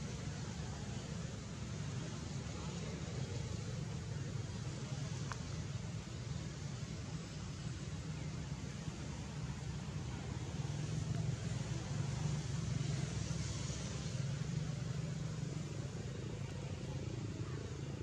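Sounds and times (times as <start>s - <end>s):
even hiss: 0.0s - 18.0s.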